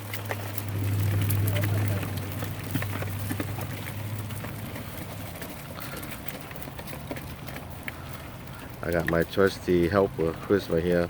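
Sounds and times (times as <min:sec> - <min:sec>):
crawfish shells clattering: 0:00.0 - 0:11.0.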